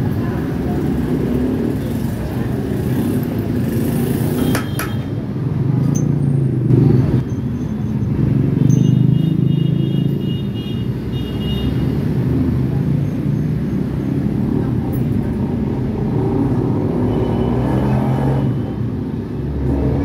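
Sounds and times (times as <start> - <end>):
road traffic engines rumbling: 0.0 - 20.0.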